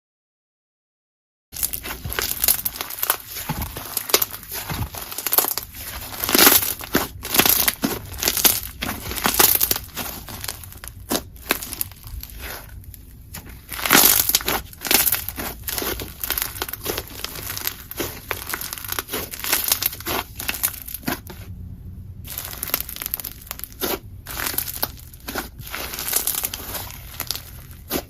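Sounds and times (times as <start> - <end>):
slime crackling and popping: 1.6 - 21.5, 22.2 - 28.0.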